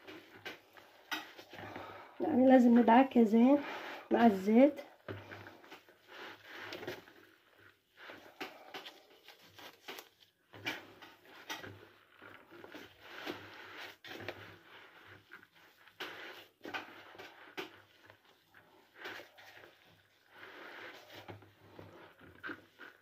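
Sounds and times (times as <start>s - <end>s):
hands kneading dough in plastic bowl: 0.0s - 23.0s.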